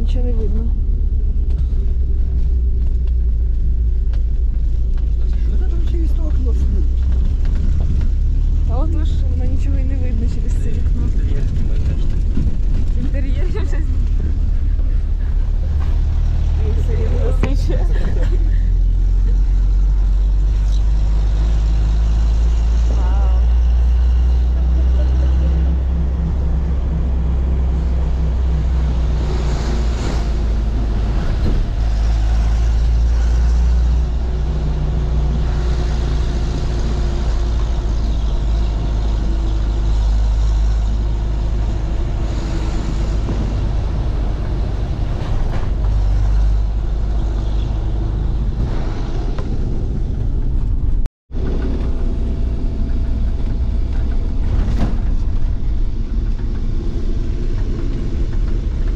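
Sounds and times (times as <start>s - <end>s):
road and body noise: 0.0s - 58.9s
vehicle rumble from inside cabin: 0.0s - 58.9s.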